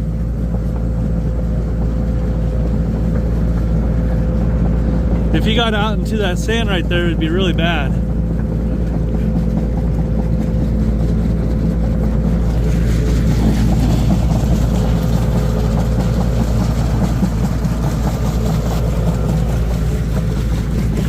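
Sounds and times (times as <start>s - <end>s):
loader engine droning: 0.0s - 21.0s.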